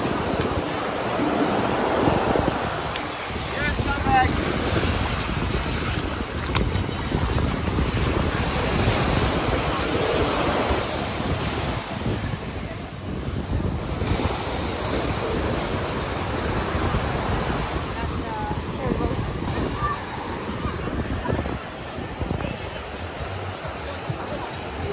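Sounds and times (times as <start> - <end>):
surf washing up on beach: 0.0 - 24.9
wind buffeting microphone: 0.0 - 24.9.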